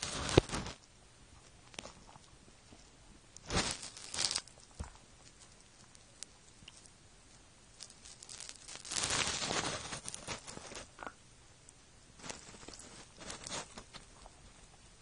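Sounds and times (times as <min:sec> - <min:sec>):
rabbit gnawing rubber toy: 0:00.0 - 0:11.2, 0:12.2 - 0:15.0.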